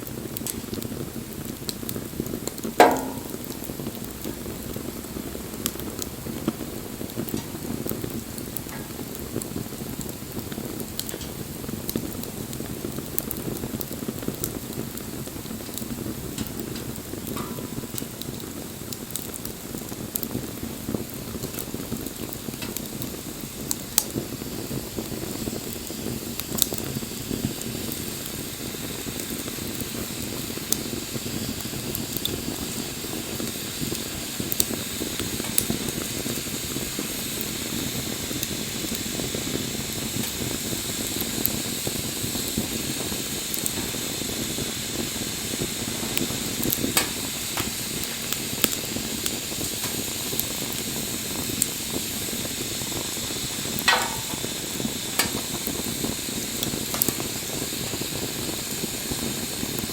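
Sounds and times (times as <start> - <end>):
campfire hissing and crackling: 0.0 - 59.9
steam whistle from burning wood: 0.0 - 59.9.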